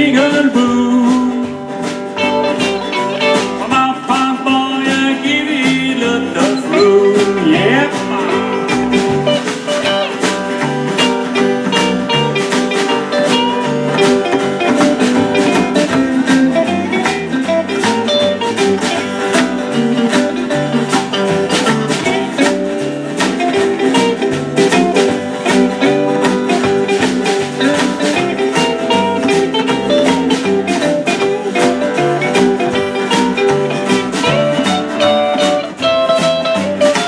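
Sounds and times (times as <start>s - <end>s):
acoustic guitar rhythm: 0.0s - 37.0s
drum beat: 0.0s - 37.0s
electric guitar lead: 0.0s - 37.0s
upright double bass: 0.0s - 37.0s.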